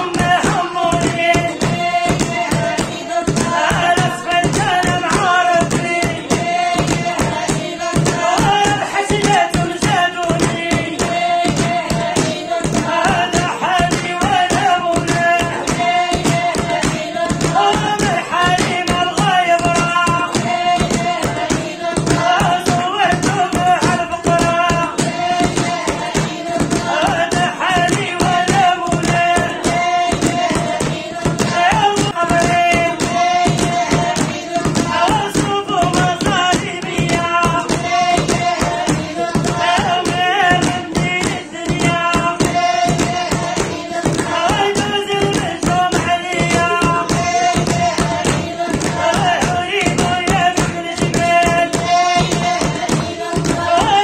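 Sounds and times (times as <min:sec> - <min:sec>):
hand claps in quick rhythm: 0:00.0 - 0:54.0
woman singing: 0:00.0 - 0:54.0.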